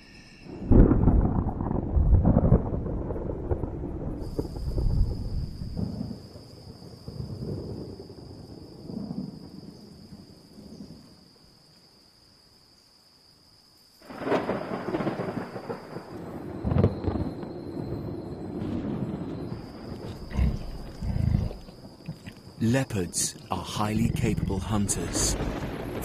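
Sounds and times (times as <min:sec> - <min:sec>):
loud thunderclap: 0:00.5 - 0:10.8, 0:14.1 - 0:26.0
thunder rumbling: 0:00.5 - 0:11.0, 0:14.1 - 0:26.0.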